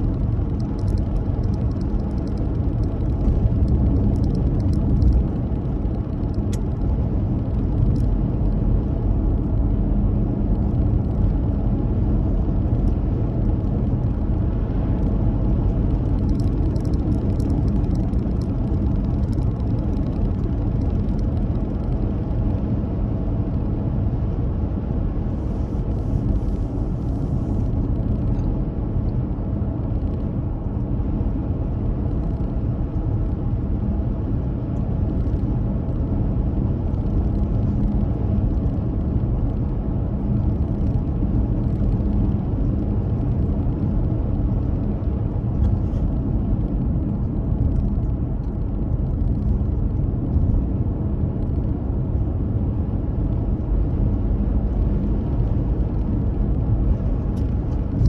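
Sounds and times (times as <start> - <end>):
car engine and tyres rumbling: 0.0 - 58.0
faint hum: 0.0 - 58.0.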